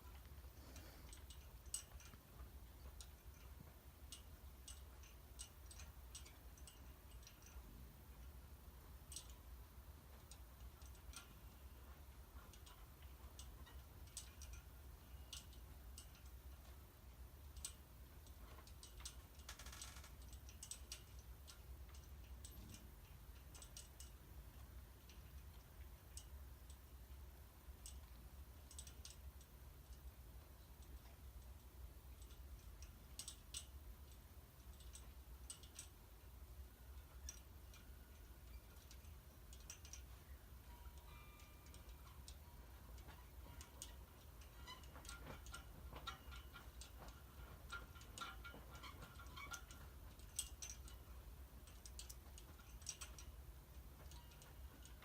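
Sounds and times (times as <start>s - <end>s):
faint irregular ticks and clicks: 0.0s - 55.0s
faint steady low hum: 0.0s - 55.0s.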